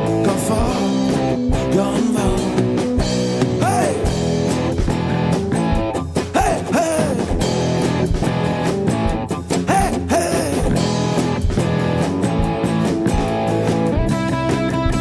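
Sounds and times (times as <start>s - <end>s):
bass guitar: 0.0s - 15.0s
electric guitar lead: 0.0s - 15.0s
steady drum beat: 0.0s - 15.0s.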